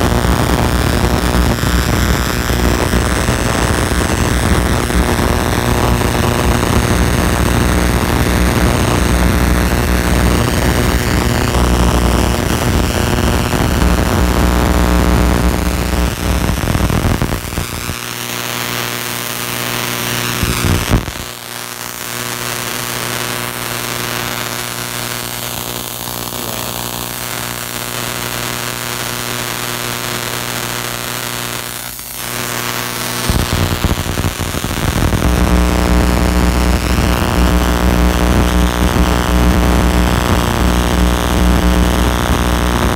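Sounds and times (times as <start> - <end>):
buzzing mains hum: 0.0 - 42.9.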